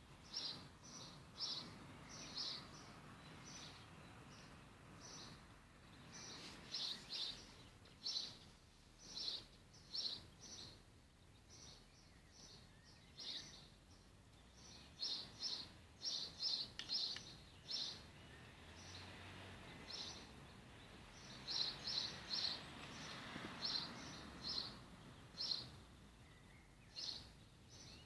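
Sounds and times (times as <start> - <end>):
faint background noise: 0.0 - 28.0
small bird chirping: 0.2 - 28.0.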